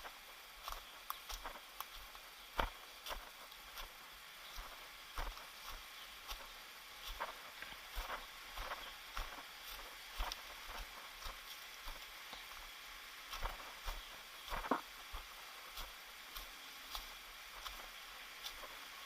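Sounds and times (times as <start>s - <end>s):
footsteps on a trail: 0.0s - 19.0s
steady hiss: 0.0s - 19.0s.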